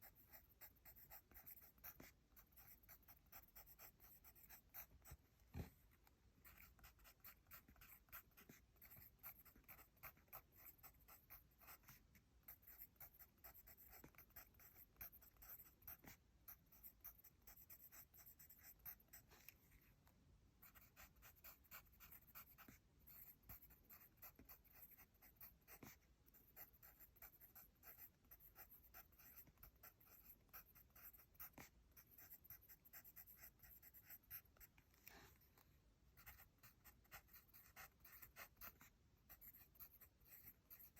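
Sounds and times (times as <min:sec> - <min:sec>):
pencil writing on paper: 0:00.0 - 0:19.9, 0:20.6 - 0:35.6, 0:36.2 - 0:40.9.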